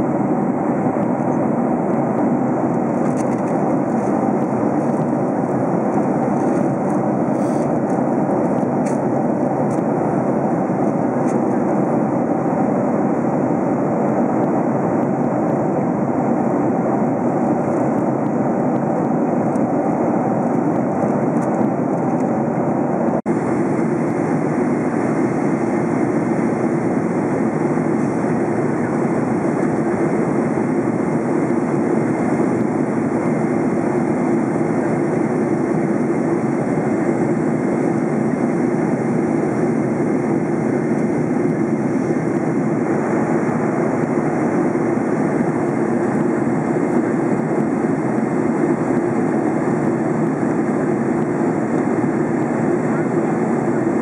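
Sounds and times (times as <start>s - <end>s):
turbofan engine roar: 0.0s - 54.0s.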